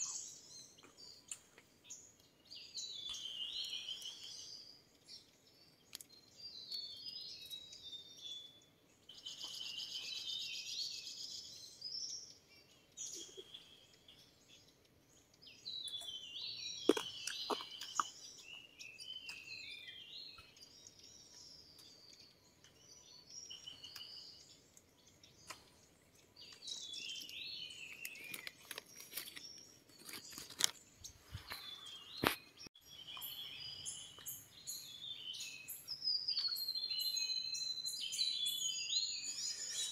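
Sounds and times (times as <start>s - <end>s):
wild birds singing: 0.0s - 39.9s.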